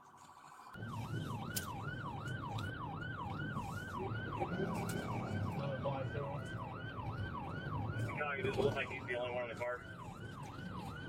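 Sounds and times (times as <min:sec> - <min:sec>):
police siren yelping: 0:00.8 - 0:11.0
vehicle driving rumble: 0:00.8 - 0:11.0.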